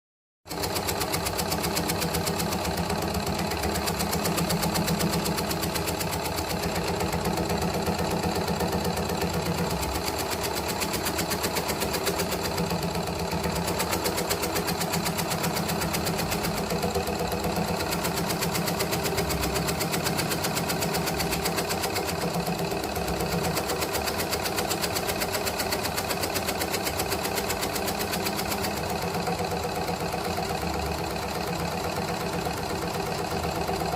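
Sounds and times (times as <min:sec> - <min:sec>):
shredding machine running: 0:00.5 - 0:33.9.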